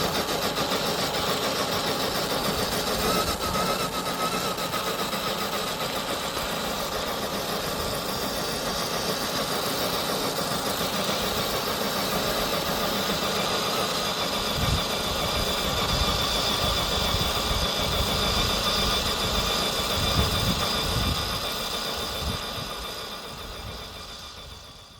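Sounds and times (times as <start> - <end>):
electric motor whine: 0.0 - 24.9.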